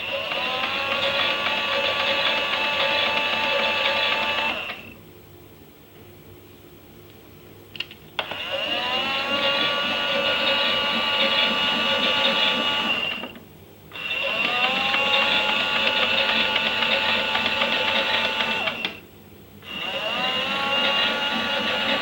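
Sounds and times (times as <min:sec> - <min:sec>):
toy washing machine motor whirring: 0:00.0 - 0:05.0, 0:08.2 - 0:19.0, 0:19.7 - 0:22.0.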